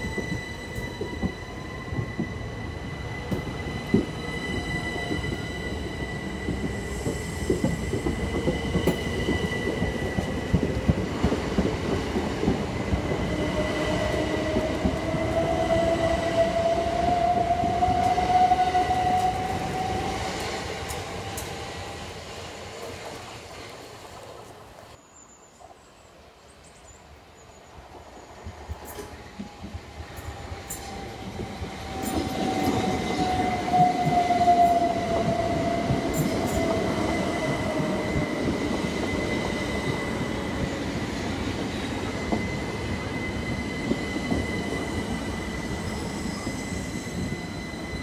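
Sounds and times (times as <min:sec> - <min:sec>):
rising whine of accelerating train: 0:00.0 - 0:25.0, 0:27.4 - 0:48.0
train wheel noise: 0:00.0 - 0:25.0, 0:27.9 - 0:48.0.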